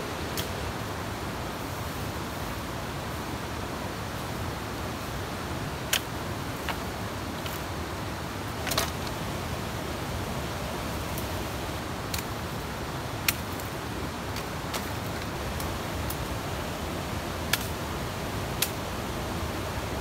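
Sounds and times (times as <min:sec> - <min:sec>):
stream rushing: 0:00.0 - 0:20.0.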